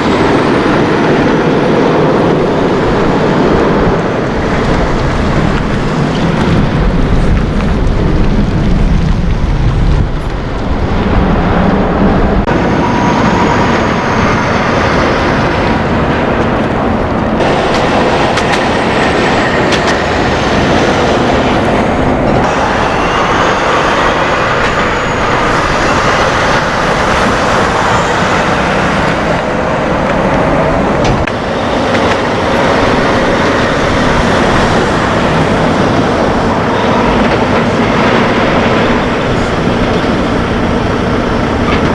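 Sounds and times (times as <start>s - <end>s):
faint high gliding whines: 0.0s - 41.9s
heavy vehicles rumbling past: 0.0s - 41.9s.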